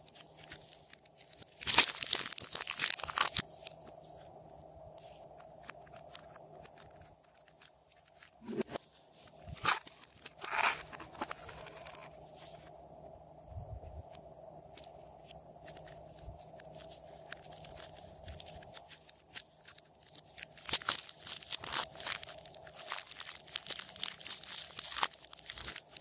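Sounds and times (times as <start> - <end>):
clay crackling and tearing: 0.0 - 3.9, 5.4 - 12.2, 15.6 - 26.0
faint steady hum: 0.0 - 26.0.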